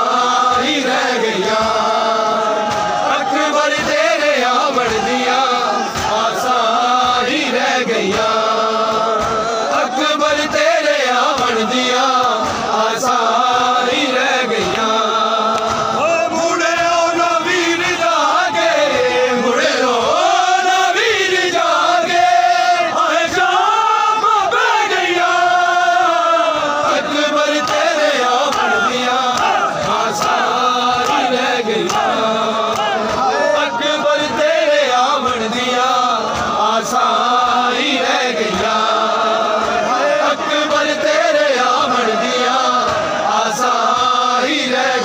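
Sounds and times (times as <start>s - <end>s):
men chanting a lament: 0.0s - 45.0s.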